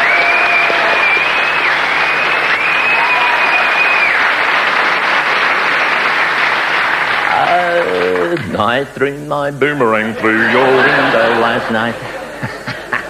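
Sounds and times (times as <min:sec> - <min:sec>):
audience applauding: 0:00.0 - 0:09.0, 0:10.2 - 0:13.0.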